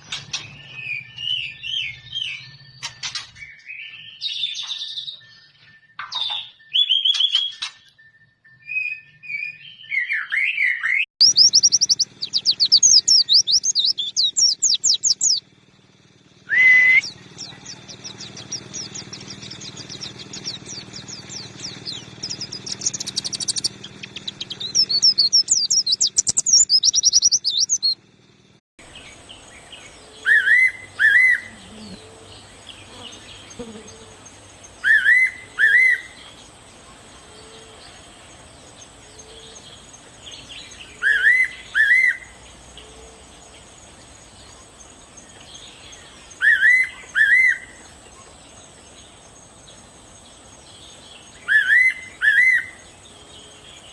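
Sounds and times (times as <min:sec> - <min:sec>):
songbird twittering song: 0:00.0 - 0:53.9.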